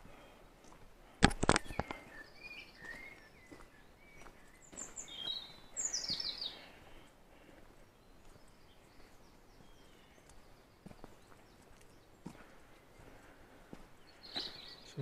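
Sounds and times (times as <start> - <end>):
footsteps on dirt path: 0.0 - 15.0
songbird singing: 0.0 - 15.0.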